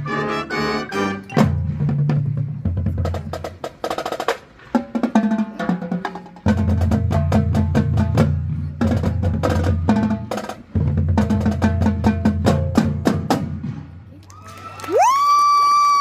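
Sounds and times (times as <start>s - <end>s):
marching band drums: 0.0s - 14.2s.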